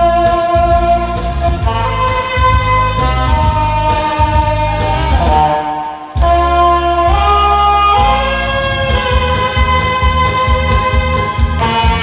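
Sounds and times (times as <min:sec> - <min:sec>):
saxophone pop ballad with backing track: 0:00.0 - 0:12.0.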